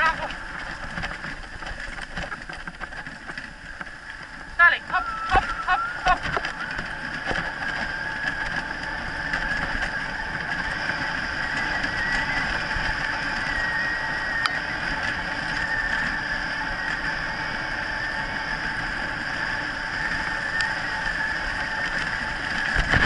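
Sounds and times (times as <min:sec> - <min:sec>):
sled rig rolling rattle: 0:00.0 - 0:23.0
thin high whine: 0:03.4 - 0:23.0.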